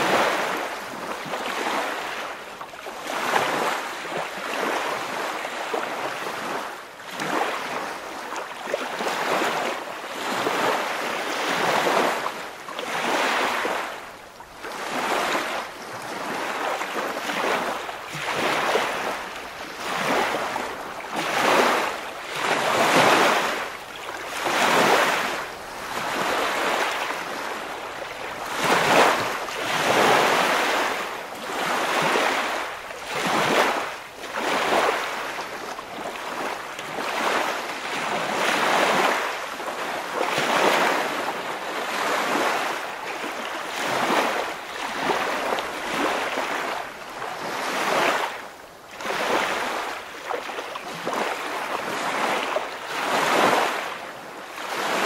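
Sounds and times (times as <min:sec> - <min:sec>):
waves washing and surging: 0:00.0 - 0:55.0.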